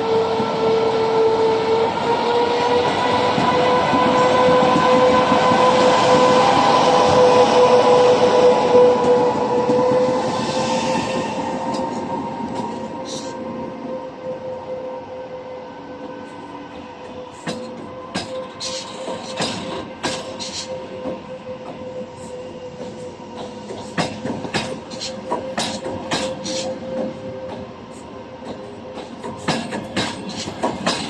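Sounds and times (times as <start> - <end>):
train whine: 0.0 - 31.0
train wheels clacking: 2.0 - 13.4, 17.0 - 31.0.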